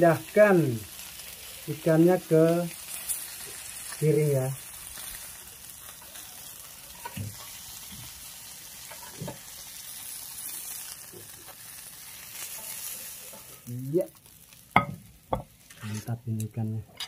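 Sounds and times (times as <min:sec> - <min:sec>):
fish sizzling on grill pan: 0:00.0 - 0:17.0.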